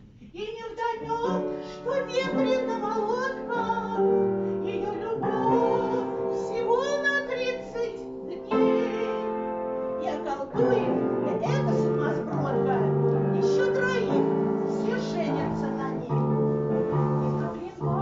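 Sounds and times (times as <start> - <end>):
woman singing: 0.2 - 16.4, 17.2 - 18.0.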